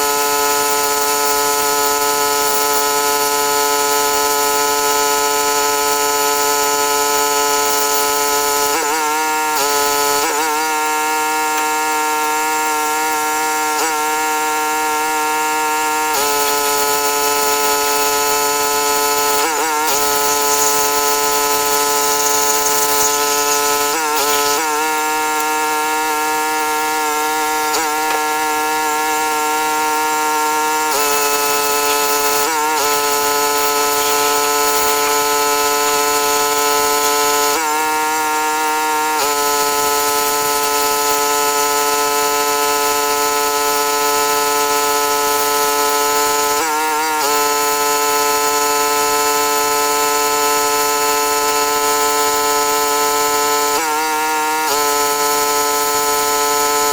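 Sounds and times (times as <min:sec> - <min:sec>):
pressure washer engine running: 0:00.0 - 0:56.9.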